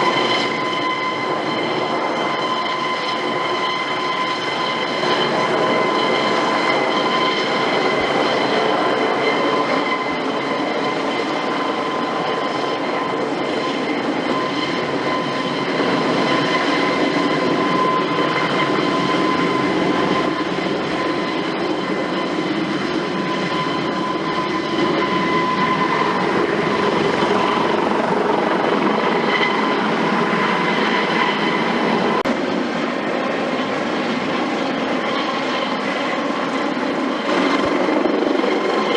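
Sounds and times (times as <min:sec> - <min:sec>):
broad rushing noise: 0:00.0 - 0:38.9
helicopter engine whine: 0:00.0 - 0:38.9.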